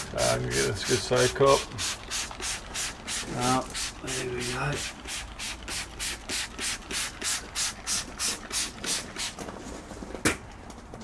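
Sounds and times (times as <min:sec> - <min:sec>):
spray bottle squirting: 0:00.2 - 0:09.5.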